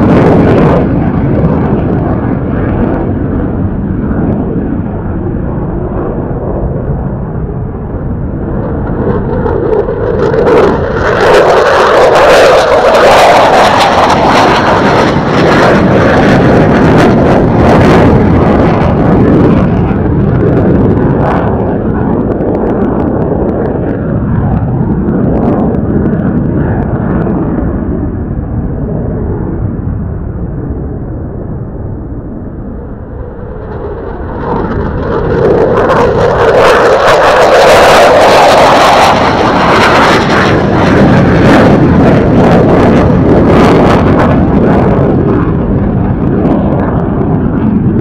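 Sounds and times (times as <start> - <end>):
jet engine roaring and crackling: 0.0 - 48.0.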